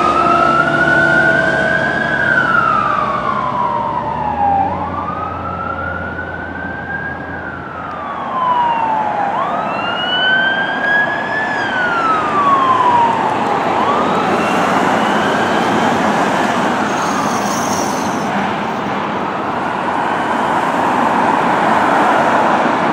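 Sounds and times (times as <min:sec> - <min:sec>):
fire engine siren wailing: 0:00.0 - 0:22.9
fire truck passing: 0:00.0 - 0:22.9.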